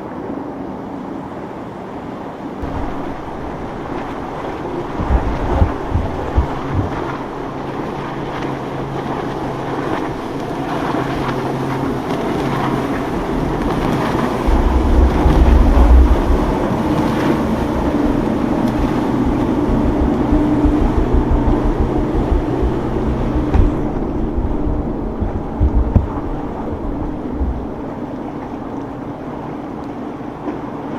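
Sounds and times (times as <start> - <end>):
boat engines running: 2.6 - 30.9
wind buffeting microphone: 2.6 - 30.9.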